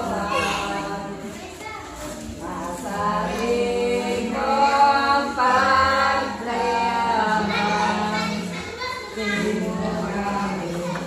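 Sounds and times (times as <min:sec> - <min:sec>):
women singing a hymn: 0:00.0 - 0:11.0.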